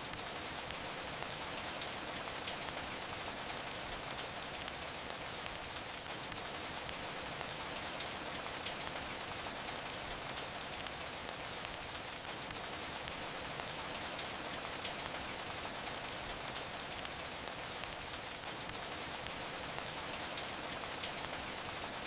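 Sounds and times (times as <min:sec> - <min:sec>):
steady rain falling: 0:00.0 - 0:22.0
wood fire crackling: 0:00.0 - 0:22.0.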